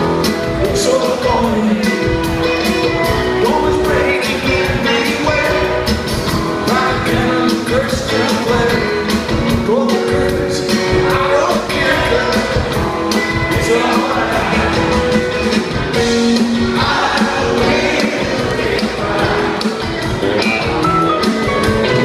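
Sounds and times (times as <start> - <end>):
person singing: 0.0 - 21.0
rock band playing: 0.0 - 22.0.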